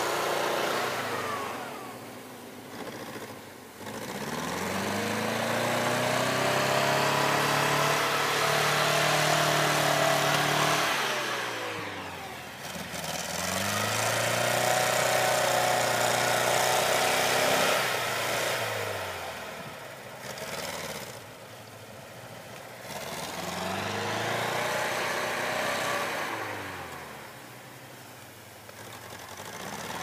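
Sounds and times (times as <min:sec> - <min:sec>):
vehicle engine labouring: 0:00.0 - 0:30.0.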